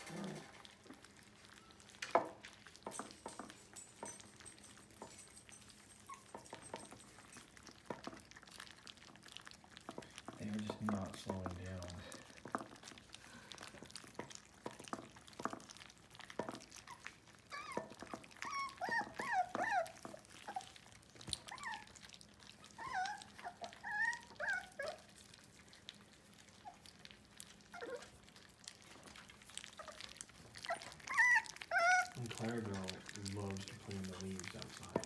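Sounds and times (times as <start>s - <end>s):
puppies lapping and chewing food: 0.0s - 35.0s
puppies whining and squealing: 0.0s - 35.0s.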